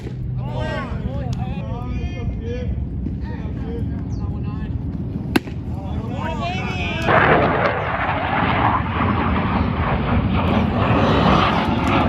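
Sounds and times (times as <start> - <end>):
airplane engine flying over: 0.0 - 12.0.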